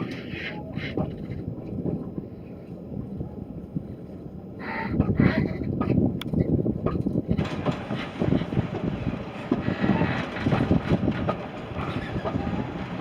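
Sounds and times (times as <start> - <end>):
train running along track: 0.0 - 13.0.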